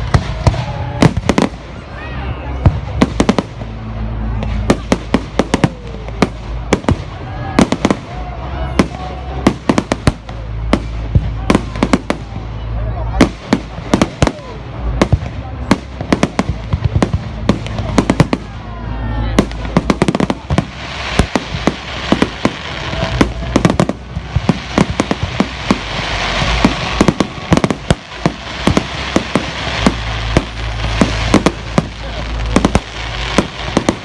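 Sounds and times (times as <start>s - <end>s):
fireworks bangs and pops: 0.0s - 18.7s, 19.3s - 34.0s
fireworks crackling hiss: 0.0s - 34.0s.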